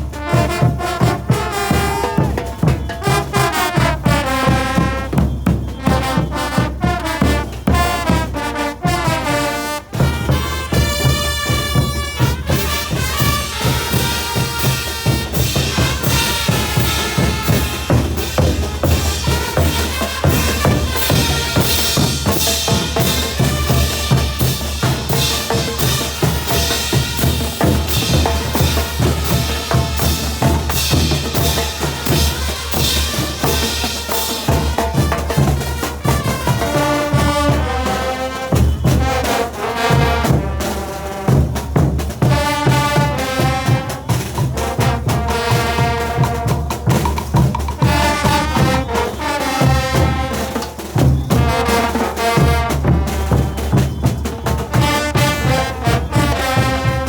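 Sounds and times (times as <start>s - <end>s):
brass playing melody: 0.0s - 57.0s
drums and cymbals: 0.0s - 57.0s.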